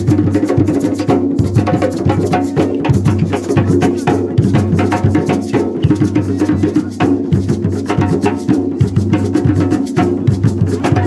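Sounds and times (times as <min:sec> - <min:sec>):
hand drums steady rhythm: 0:00.0 - 0:11.0
lead drum playing: 0:00.0 - 0:11.0.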